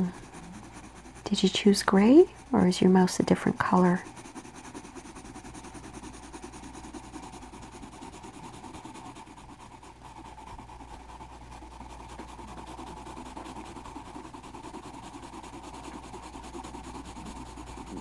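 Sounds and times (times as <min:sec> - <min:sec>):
low steady hum: 0:00.0 - 0:18.0
pencil scratching on paper: 0:00.0 - 0:18.0.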